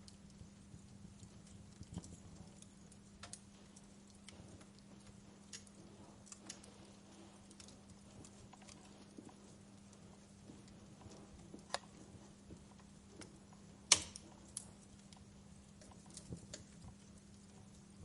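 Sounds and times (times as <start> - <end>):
faint steady hum: 0.0 - 18.0
wood fire crackling and popping: 0.0 - 18.0.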